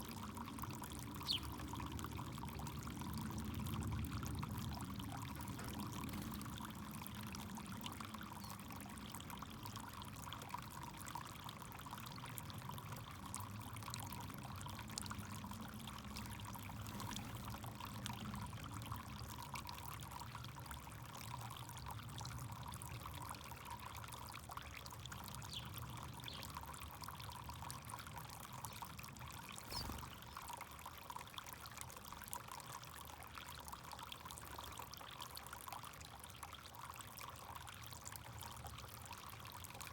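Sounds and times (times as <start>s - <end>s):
fountain water pouring and trickling: 0.0s - 39.9s.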